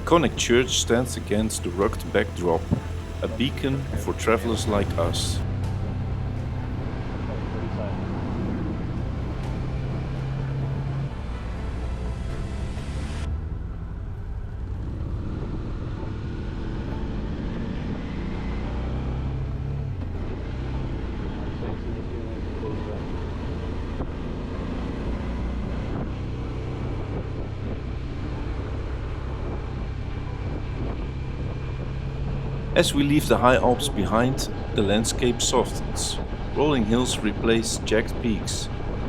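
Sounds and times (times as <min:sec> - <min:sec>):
motorcycle engine running: 0:00.0 - 0:39.0
road and wind noise: 0:00.0 - 0:39.0.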